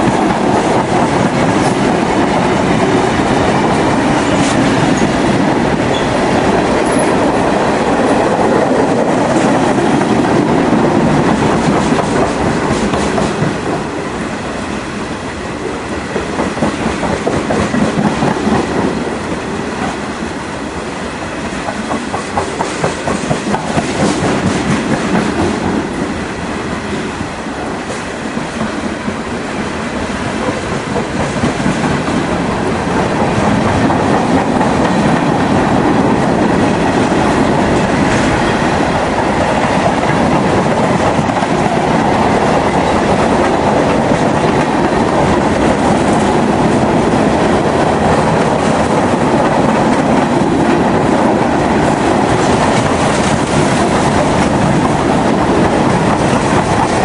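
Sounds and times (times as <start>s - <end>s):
train wheels clacking over rail joints: 0.0s - 13.9s, 16.0s - 20.0s, 21.4s - 25.9s, 30.0s - 57.0s
train rolling rumble: 0.0s - 57.0s.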